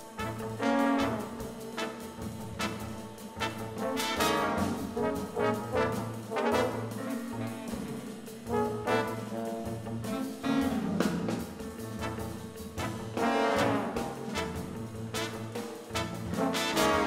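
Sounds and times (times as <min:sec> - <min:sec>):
brass section chords: 0:00.0 - 0:17.0
drum cymbals: 0:00.0 - 0:17.0
plucked double bass: 0:00.1 - 0:17.0.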